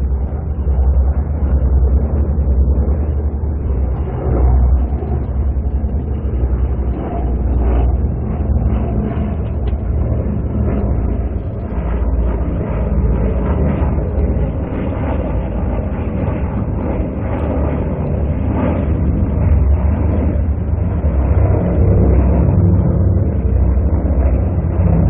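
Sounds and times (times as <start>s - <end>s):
twin piston aircraft engines droning: 0.0s - 25.0s.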